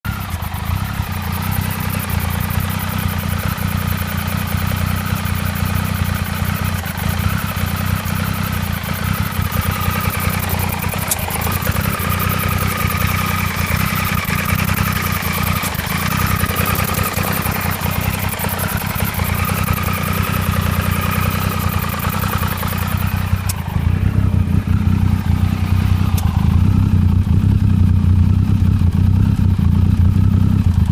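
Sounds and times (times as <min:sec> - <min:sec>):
motorcycle engine running: 0:00.0 - 0:30.9
high whine: 0:00.1 - 0:29.4.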